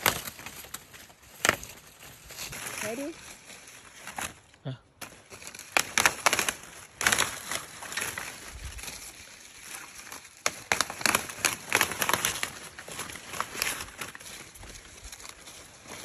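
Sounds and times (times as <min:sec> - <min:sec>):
leaves snapping and rustling: 0:00.0 - 0:16.0.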